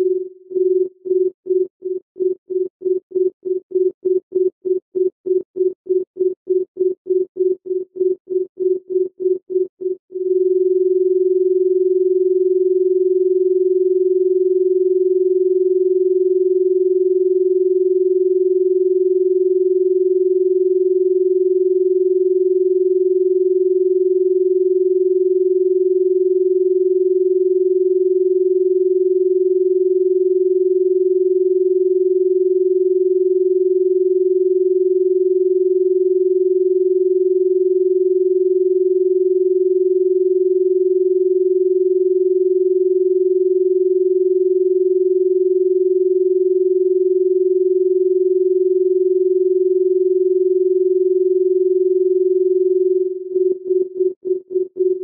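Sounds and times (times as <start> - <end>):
electronic sine tone: 0.0 - 55.0.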